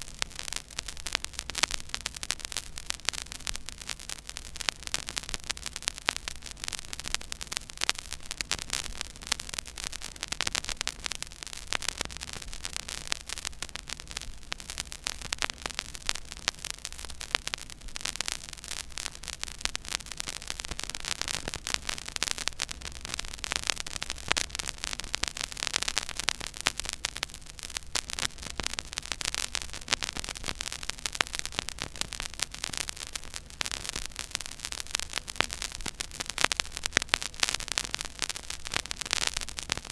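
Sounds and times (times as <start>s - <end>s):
vinyl record crackle and pops: 0.0s - 39.9s.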